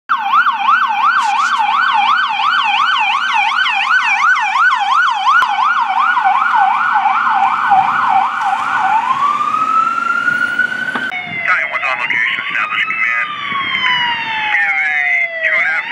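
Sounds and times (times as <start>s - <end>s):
electronic siren: 0.1s - 15.9s.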